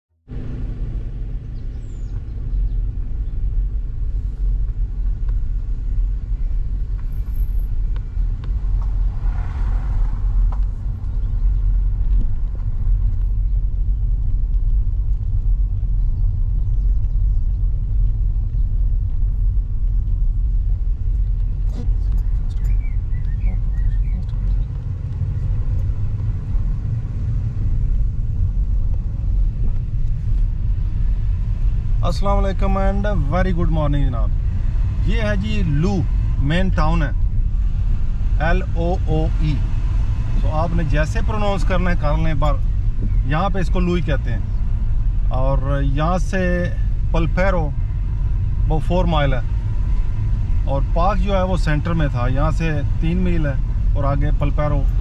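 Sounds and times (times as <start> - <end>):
car engine and tyre rumble: 0.1 - 55.0.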